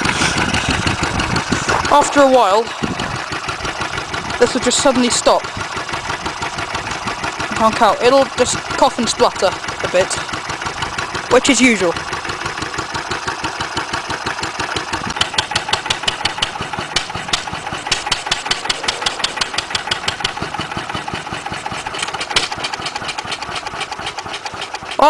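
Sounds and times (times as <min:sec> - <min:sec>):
stationary engine running: 0:00.0 - 0:25.0.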